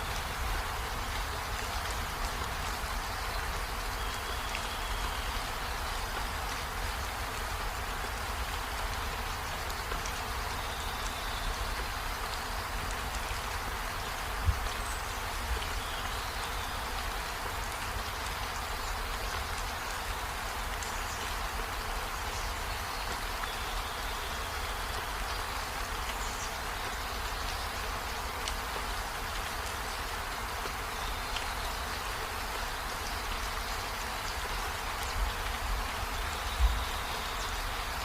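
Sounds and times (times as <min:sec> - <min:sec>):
steady rain on trees and window: 0:00.0 - 0:38.0.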